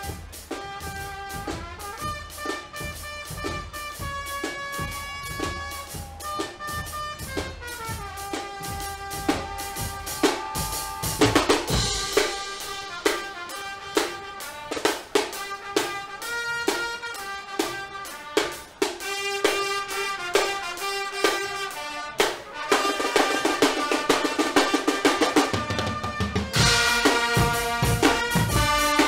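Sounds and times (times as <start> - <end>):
brass band playing: 0.0 - 29.0
drumming with cymbal crash: 0.0 - 29.0.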